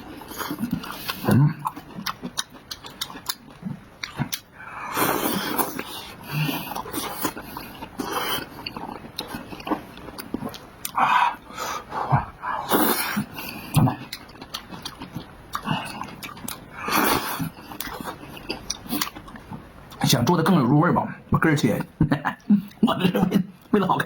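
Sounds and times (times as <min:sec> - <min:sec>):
person chewing and slurping: 0:00.0 - 0:19.7.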